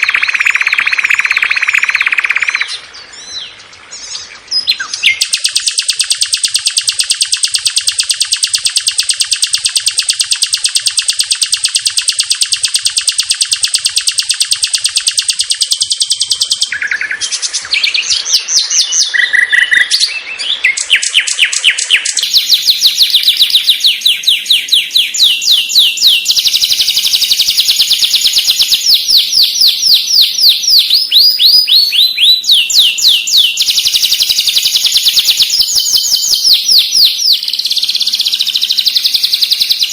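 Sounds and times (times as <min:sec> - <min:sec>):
bird song with fast trills: 0:00.0 - 0:39.9.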